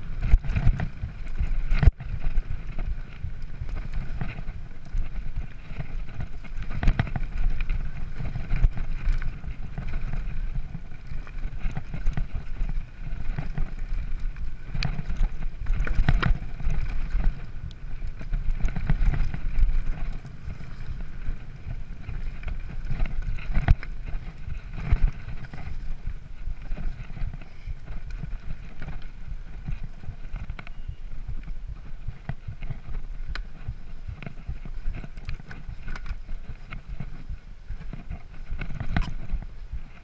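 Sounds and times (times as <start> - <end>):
bike knocks and rattles: 0.0 - 40.0
wind buffeting microphone: 0.0 - 40.0.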